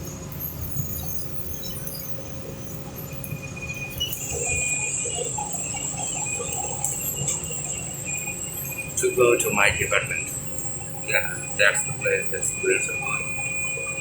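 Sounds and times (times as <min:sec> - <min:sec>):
insects trilling: 0:00.4 - 0:14.0.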